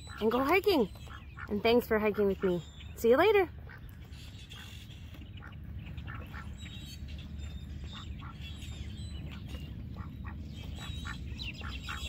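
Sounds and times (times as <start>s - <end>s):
ducks quacking: 0.0s - 12.0s
low steady rumble: 0.9s - 12.0s.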